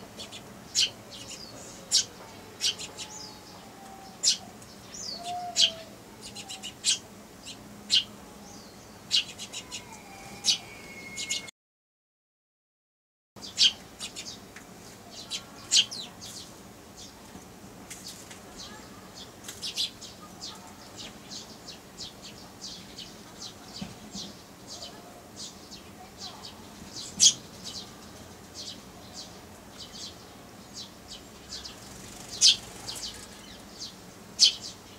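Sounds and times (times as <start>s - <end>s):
sparrows chirping: 0.0s - 11.5s, 13.4s - 34.9s.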